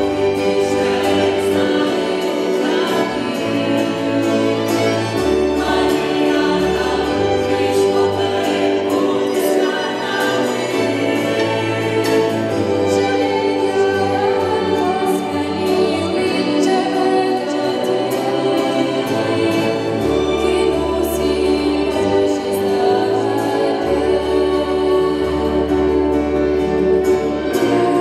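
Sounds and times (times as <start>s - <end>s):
cello: 0.0s - 28.0s
violin: 0.0s - 28.0s
vocal group singing in harmony: 0.0s - 28.0s.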